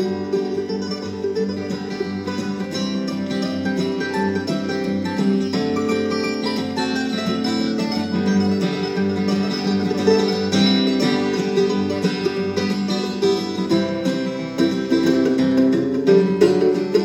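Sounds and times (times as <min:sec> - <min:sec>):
acoustic plucked string folk music: 0:00.0 - 0:17.0.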